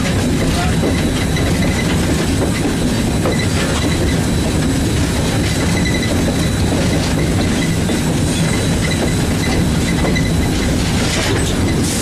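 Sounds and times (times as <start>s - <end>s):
locomotive engine rattling: 0.0s - 12.0s
train wheels on rails: 0.0s - 12.0s.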